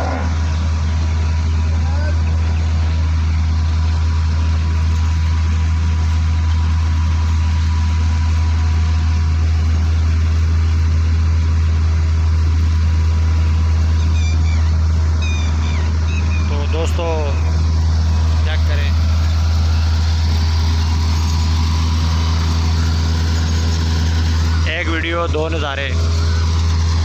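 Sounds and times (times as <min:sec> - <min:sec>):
harvesting machine droning: 0:00.0 - 0:27.0.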